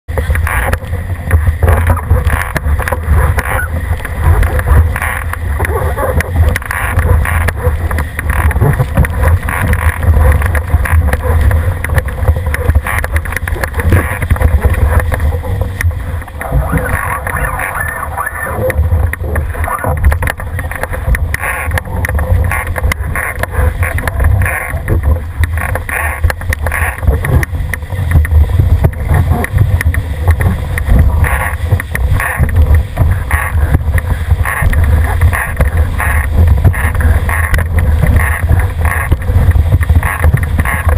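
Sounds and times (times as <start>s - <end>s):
water rushing along hull: 0.0s - 40.9s
wind rumble on microphone: 0.0s - 40.9s.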